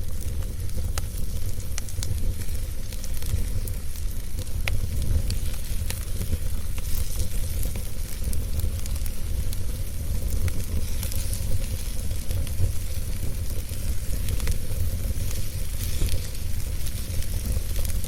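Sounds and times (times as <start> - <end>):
sharp pops of burning wood: 0.0 - 18.0
wood fire crackling: 0.0 - 18.0.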